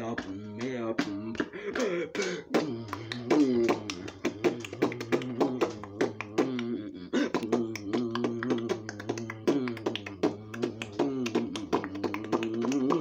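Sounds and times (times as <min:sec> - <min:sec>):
beatboxing mouth-drum hits: 0:00.0 - 0:13.0.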